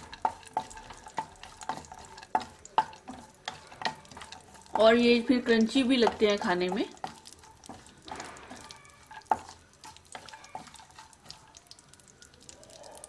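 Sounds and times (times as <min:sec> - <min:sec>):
wooden spatula scraping wok: 0:00.0 - 0:12.6
faint sizzle: 0:00.0 - 0:13.0
nuts clicking: 0:00.0 - 0:13.0.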